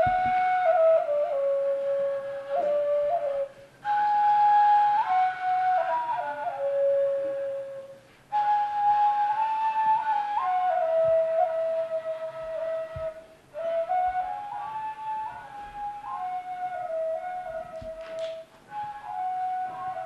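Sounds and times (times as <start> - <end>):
slow flute-like melody: 0.0 - 20.0.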